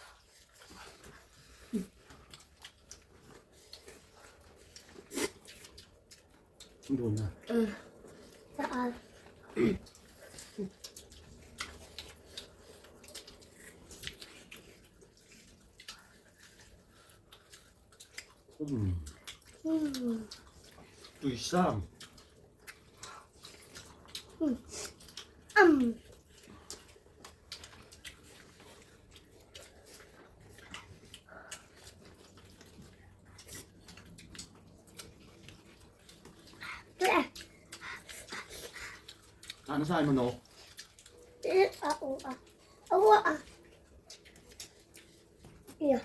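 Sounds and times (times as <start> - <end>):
low background hum: 0.0 - 46.0
people eating: 0.0 - 46.0.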